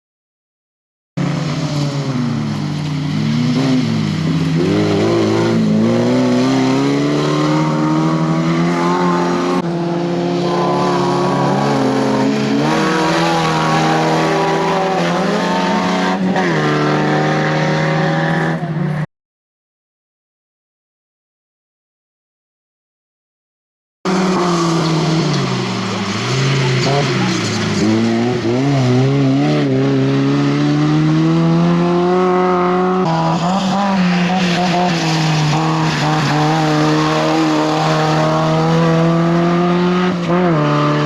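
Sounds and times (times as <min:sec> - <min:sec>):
race car engine revving: 0:01.2 - 0:19.0, 0:24.1 - 0:41.0.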